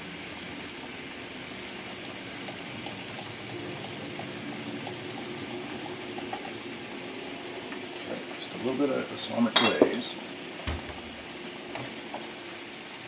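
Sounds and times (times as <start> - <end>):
sauce simmering in a skillet: 0.0 - 9.6, 10.2 - 13.0.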